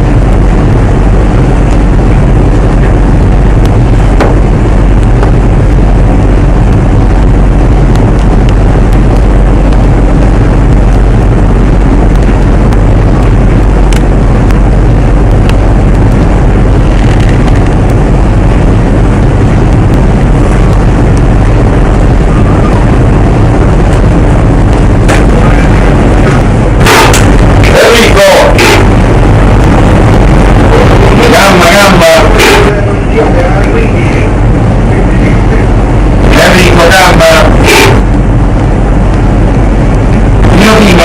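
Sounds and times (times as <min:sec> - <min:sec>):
rushing wind: 0:00.0 - 0:41.0
sea noise: 0:00.0 - 0:41.0
ship engine low drone: 0:00.0 - 0:41.0.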